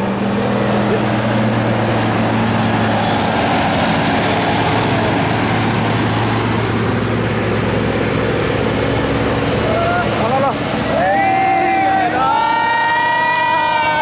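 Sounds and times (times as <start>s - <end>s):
heavy vehicle engine humming: 0.0s - 14.0s.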